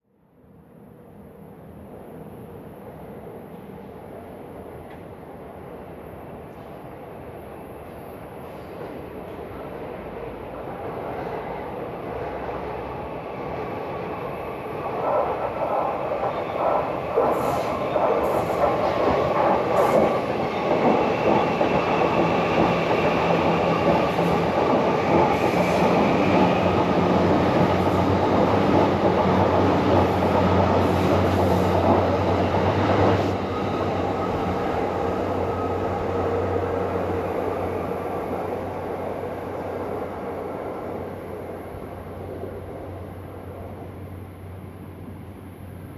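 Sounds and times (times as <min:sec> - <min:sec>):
train passing close by: 0:00.4 - 0:45.9.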